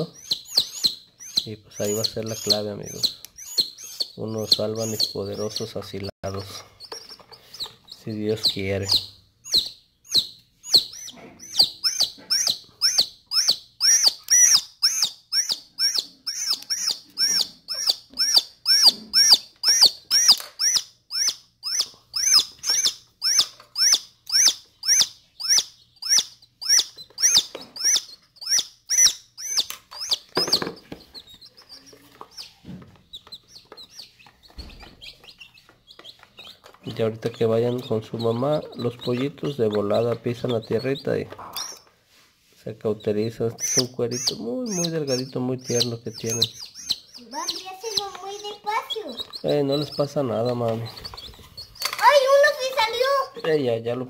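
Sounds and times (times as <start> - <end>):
chick peeping loudly: 0.0 - 41.8, 42.9 - 53.6.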